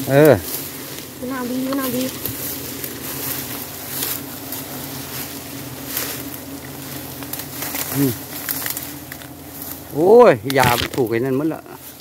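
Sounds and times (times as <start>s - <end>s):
bees brushed off comb rustling: 0.0s - 12.0s
bees buzzing low hum: 0.0s - 12.0s.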